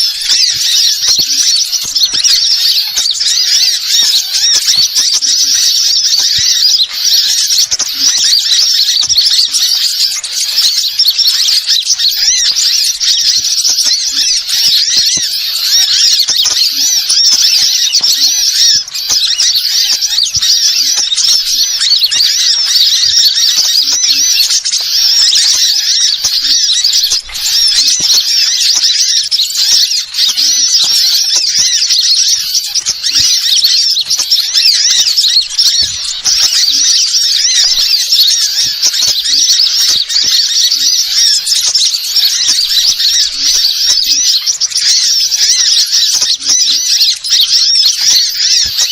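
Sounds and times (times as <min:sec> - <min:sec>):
birds chattering and squeaking: 0:00.0 - 0:48.9.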